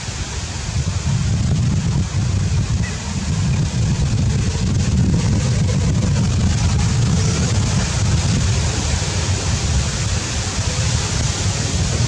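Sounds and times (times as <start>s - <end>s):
even hiss: 0.0s - 12.0s
low rumble: 0.7s - 12.0s.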